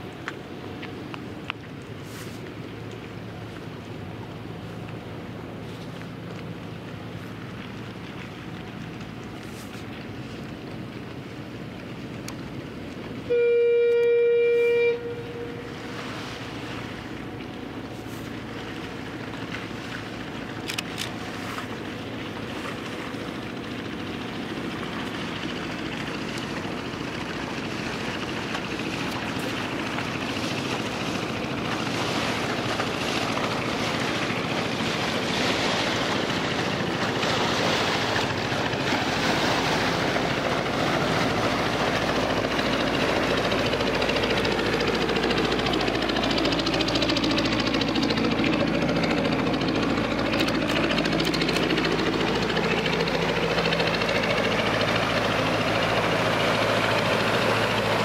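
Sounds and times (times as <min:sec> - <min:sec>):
rushing water: 0:00.0 - 0:58.0
ship engine drone: 0:00.0 - 0:58.0.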